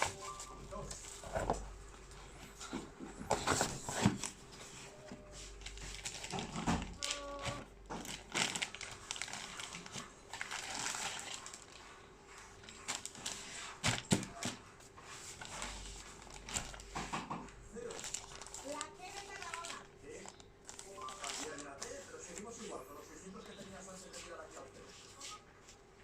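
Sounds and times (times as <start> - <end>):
packaging rustling and crinkling: 0.0 - 22.8.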